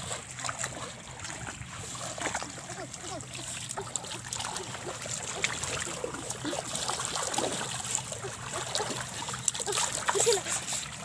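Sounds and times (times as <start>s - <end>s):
hands sloshing through muddy water: 0.0s - 11.0s.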